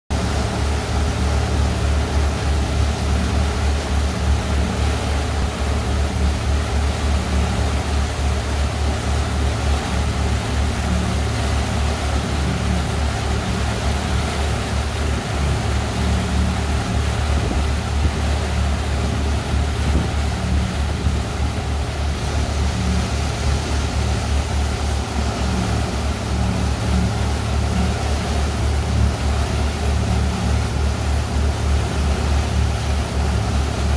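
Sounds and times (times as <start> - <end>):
boat engine droning: 0.1 - 33.9
water rushing in wake: 0.1 - 33.9.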